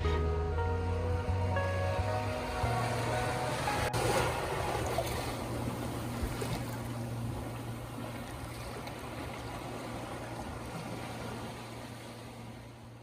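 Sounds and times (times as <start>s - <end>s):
low steady hum: 0.0s - 13.0s
waves washing on beach: 1.9s - 13.0s.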